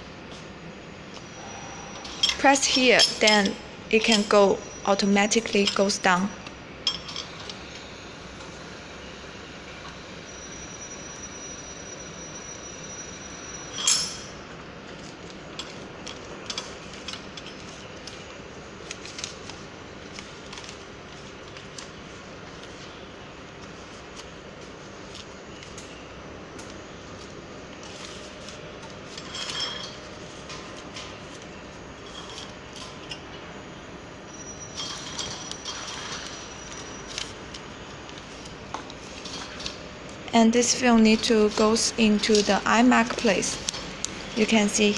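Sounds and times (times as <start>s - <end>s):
machine hum: 0.0s - 44.9s.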